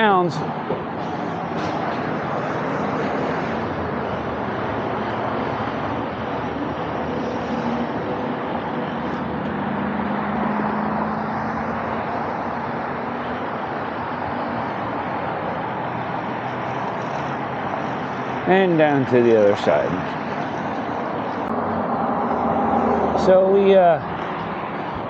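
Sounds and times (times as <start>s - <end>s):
highway traffic: 0.0s - 25.0s.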